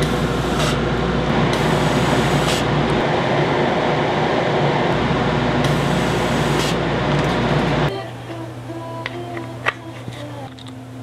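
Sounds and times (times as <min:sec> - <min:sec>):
laser cutter machine hum: 0:00.0 - 0:08.9.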